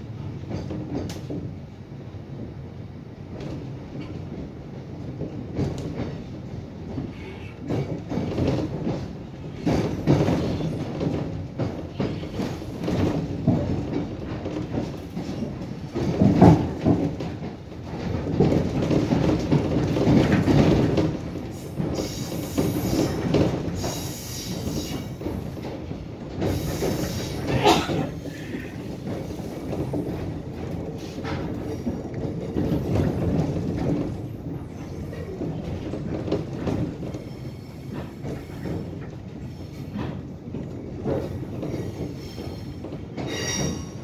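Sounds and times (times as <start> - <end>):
clickety-clack over rail joints: 0.0 - 44.0
sharp train clatter: 0.0 - 44.0
train wheels rumbling on rails: 0.0 - 44.0.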